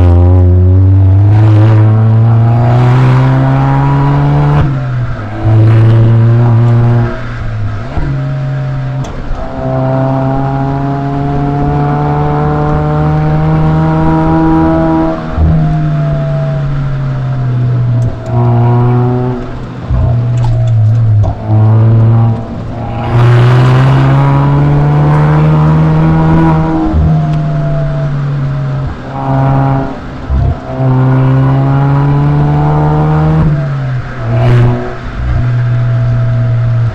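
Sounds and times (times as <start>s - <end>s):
car exhaust revving: 0.0s - 36.9s.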